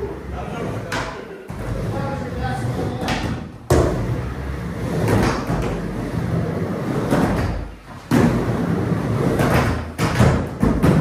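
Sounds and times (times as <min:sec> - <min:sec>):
skateboard wheels rolling on wood: 0:00.0 - 0:11.0.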